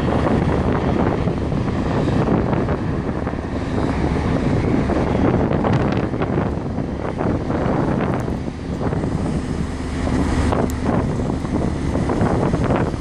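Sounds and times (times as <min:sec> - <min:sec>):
wake waves breaking on bank: 0:00.0 - 0:13.0
wind buffeting microphone: 0:00.0 - 0:13.0.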